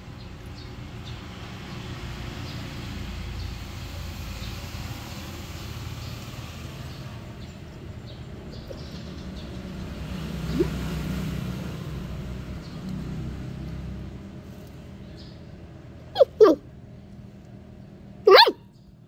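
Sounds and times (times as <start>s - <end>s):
vehicle passing rumble: 0.0s - 18.4s.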